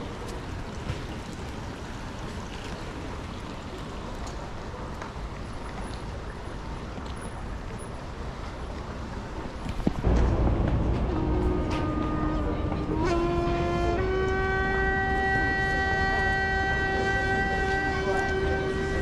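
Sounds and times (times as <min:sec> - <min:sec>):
rushing outdoor noise: 0:00.0 - 0:19.0.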